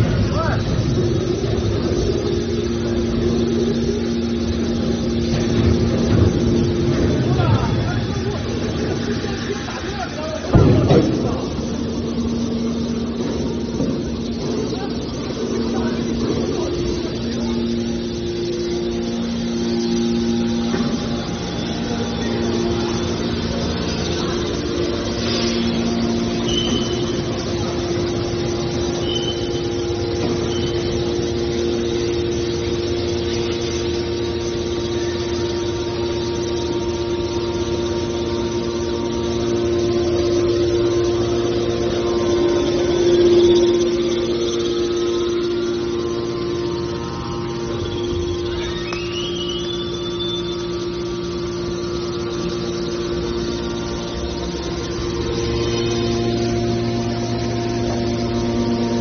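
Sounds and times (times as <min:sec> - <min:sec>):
can baler machine hum: 0:00.0 - 0:59.0.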